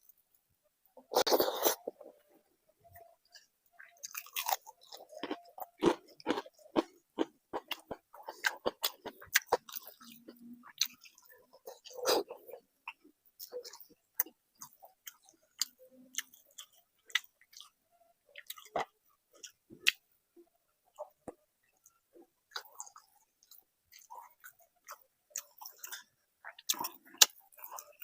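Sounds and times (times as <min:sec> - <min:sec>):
close-miked chewing: 0:02.9 - 0:20.0, 0:20.9 - 0:28.0.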